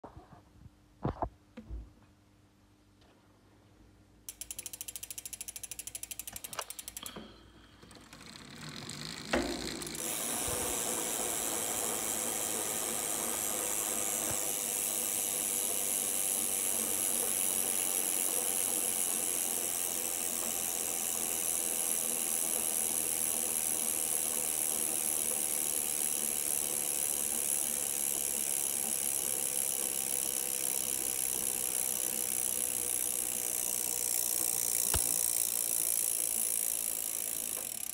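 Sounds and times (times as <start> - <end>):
bicycle freehub clicking and buzzing: 4.3 - 37.9.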